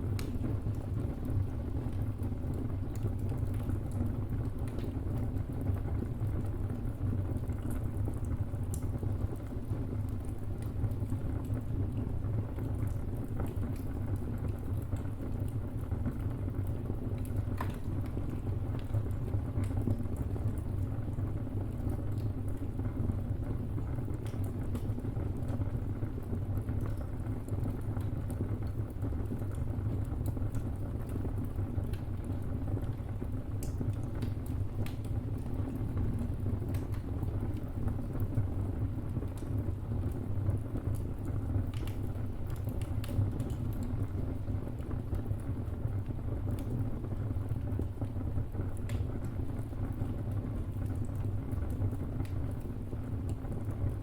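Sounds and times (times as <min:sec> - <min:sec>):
fire crackles and pops: 0:00.0 - 0:54.0
low rumble of flames: 0:00.0 - 0:54.0.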